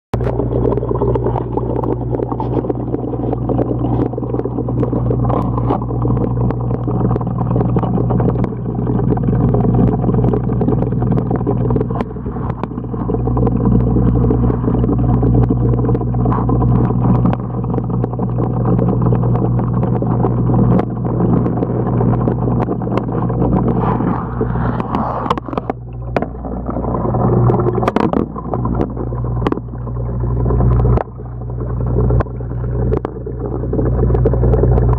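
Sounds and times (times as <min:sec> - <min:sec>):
underwater low hum and rumble: 0:00.1 - 0:34.9.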